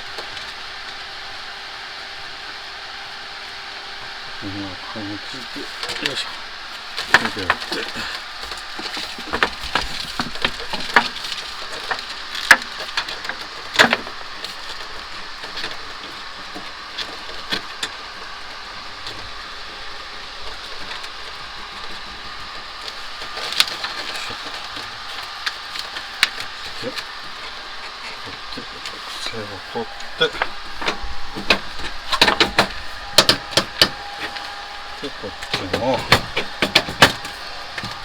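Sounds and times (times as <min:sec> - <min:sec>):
steady background hiss: 0:00.0 - 0:38.0
clicks and knocks of handling piping: 0:05.4 - 0:38.0.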